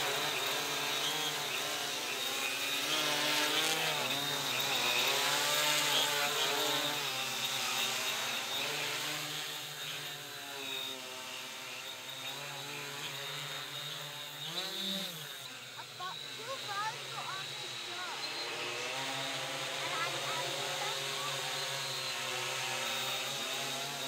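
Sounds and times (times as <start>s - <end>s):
quadcopter propellers buzzing: 0.0s - 24.0s.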